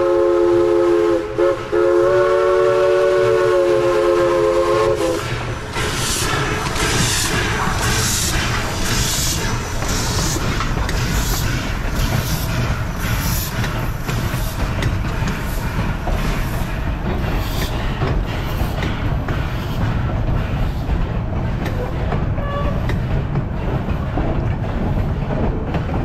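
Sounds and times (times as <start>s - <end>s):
steam locomotive exhaust beats: 0.0s - 26.0s
train wheels rumbling on track: 0.0s - 26.0s.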